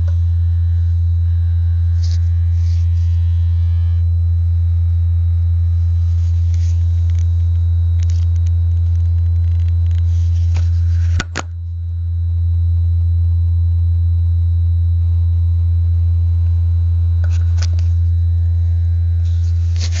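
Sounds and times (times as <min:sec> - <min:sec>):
low-pitched vibrating buzz: 0:00.0 - 0:20.0.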